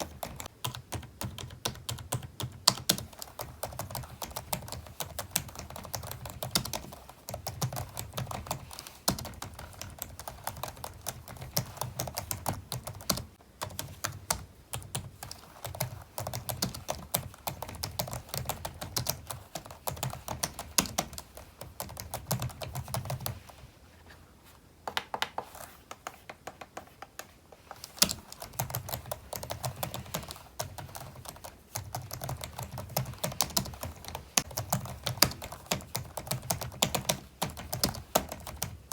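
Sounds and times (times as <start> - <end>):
computer keyboard typing: 0.0 - 23.6, 24.9 - 38.9.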